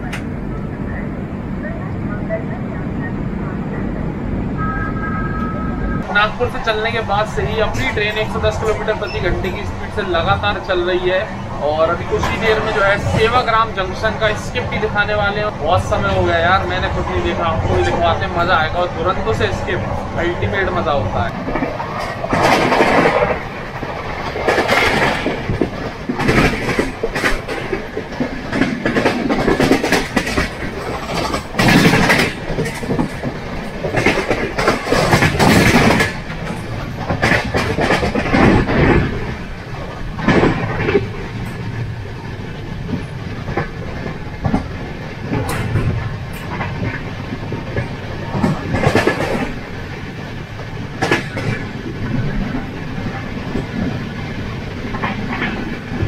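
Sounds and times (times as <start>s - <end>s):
train running and wind noise: 0.0s - 56.0s
wheels clattering over rail joints: 6.0s - 56.0s.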